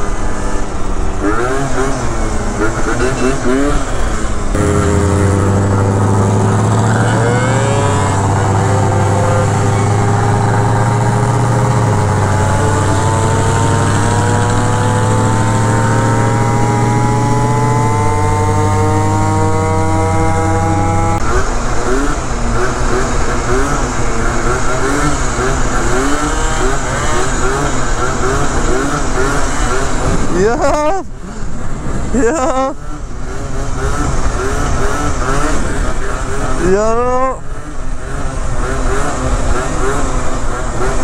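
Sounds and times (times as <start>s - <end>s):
scooter engine running: 0.0s - 41.0s.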